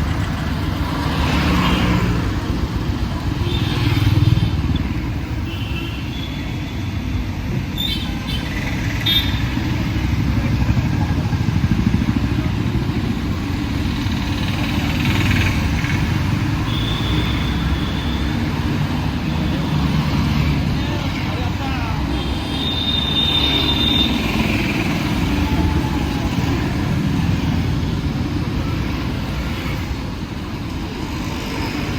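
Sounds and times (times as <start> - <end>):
motorcycles and cars passing: 0.0 - 31.9.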